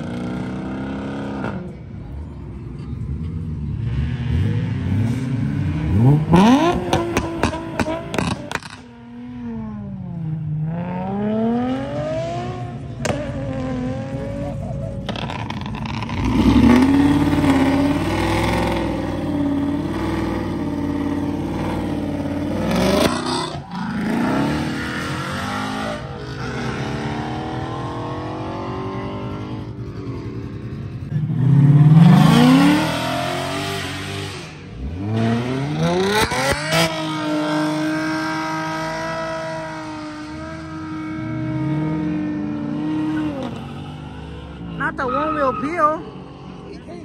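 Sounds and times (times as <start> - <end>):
car engine revving: 3.1 - 46.9.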